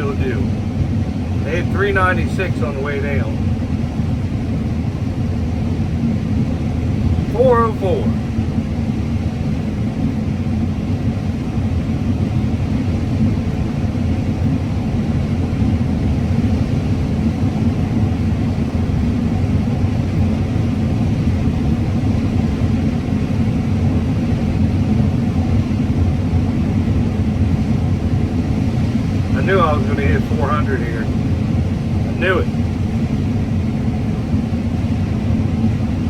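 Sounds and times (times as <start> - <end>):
combine harvester rumbling: 0.0 - 36.0.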